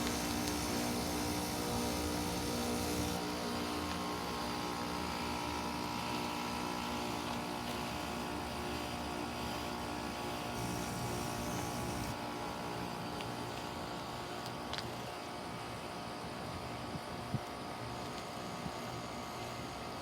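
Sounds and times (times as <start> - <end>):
heat pump humming: 0.0 - 20.0.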